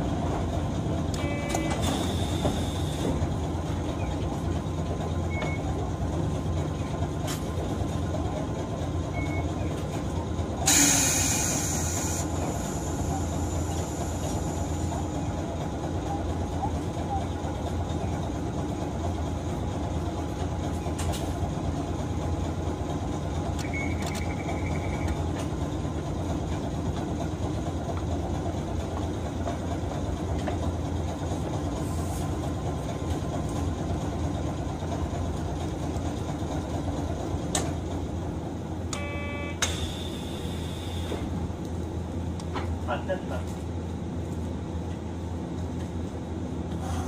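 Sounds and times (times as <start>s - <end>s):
tram running hum and rumble: 0.0s - 47.0s.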